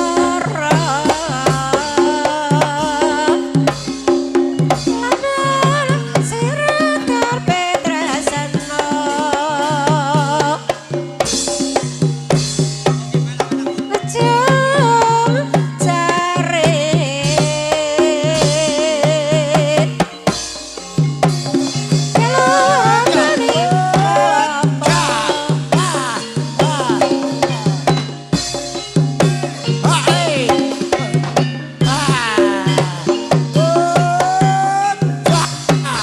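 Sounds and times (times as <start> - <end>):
person singing ornamented vocal: 0.0 - 11.6, 13.1 - 20.4, 21.8 - 28.2, 29.7 - 36.0
hand drums beating: 0.0 - 36.0.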